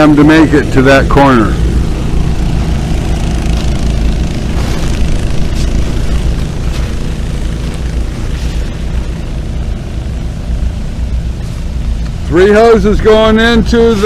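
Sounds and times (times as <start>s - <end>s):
gasoline water pumps running: 0.0s - 14.0s.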